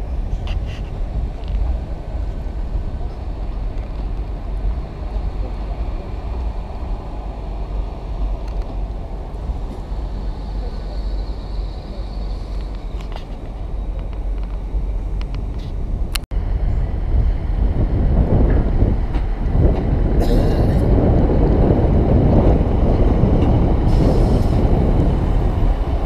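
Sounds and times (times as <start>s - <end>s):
train rumble on rails: 0.0s - 26.0s.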